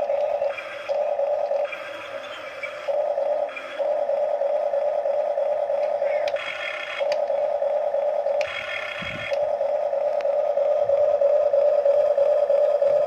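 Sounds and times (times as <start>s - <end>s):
high buzzing tone: 0.0s - 13.0s
small electric motors whining: 0.0s - 13.0s.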